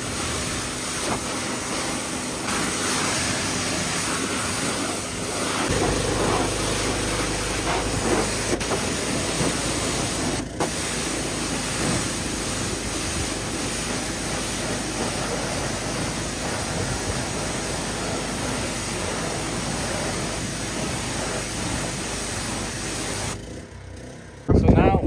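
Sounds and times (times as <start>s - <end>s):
pressure washer spraying water: 0.0s - 23.4s.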